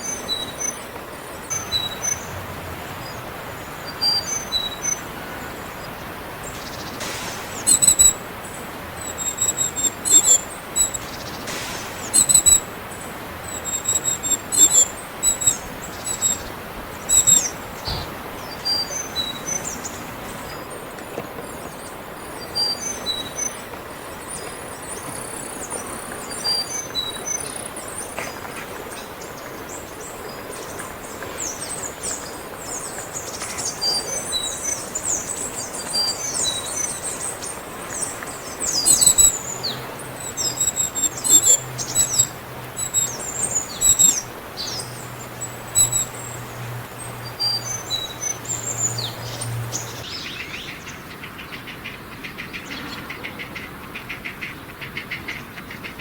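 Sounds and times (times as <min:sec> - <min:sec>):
small birds chirping: 0:00.0 - 0:54.7.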